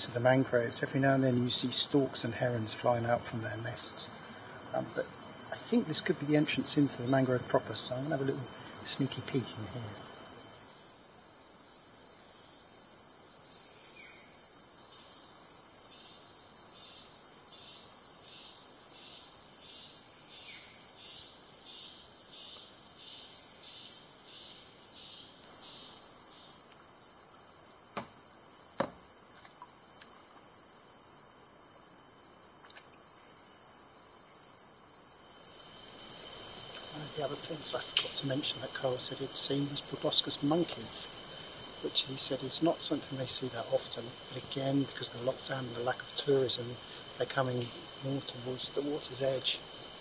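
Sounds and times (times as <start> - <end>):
insects buzzing: 0.0 - 50.0.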